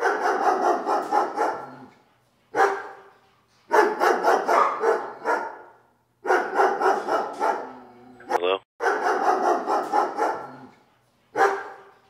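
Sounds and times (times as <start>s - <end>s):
dog barking: 0.0s - 1.9s, 2.5s - 3.1s, 3.7s - 10.7s, 11.3s - 11.9s.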